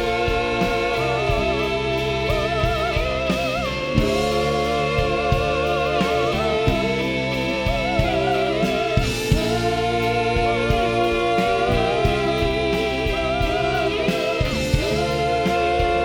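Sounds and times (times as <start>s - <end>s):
sustained instrumental chords: 0.0s - 16.0s.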